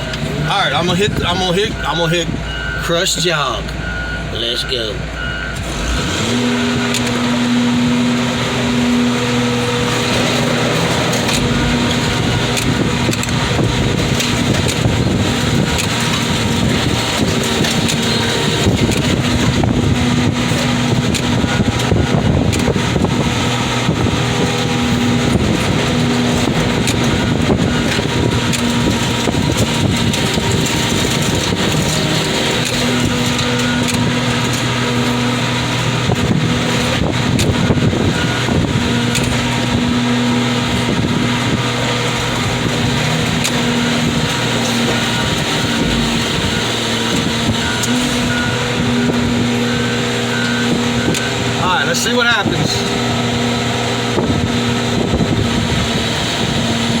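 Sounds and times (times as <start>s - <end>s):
car crusher engine and hydraulics: 0.0s - 57.0s.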